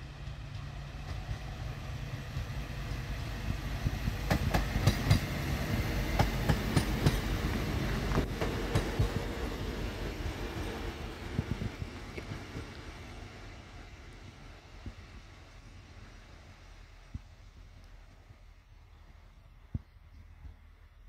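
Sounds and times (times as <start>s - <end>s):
train wheels clicking over rails: 0.0s - 18.5s
diesel train engine rumble: 0.0s - 21.0s.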